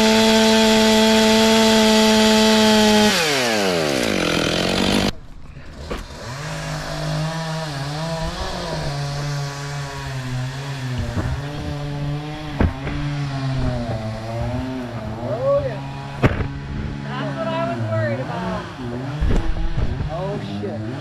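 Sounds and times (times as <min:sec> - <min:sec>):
chainsaw running at high revs: 0:00.0 - 0:21.0.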